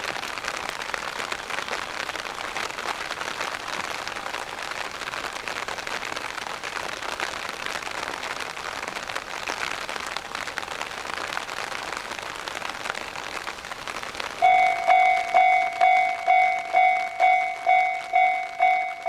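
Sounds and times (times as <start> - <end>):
heavy rain on an umbrella: 0.0 - 19.0.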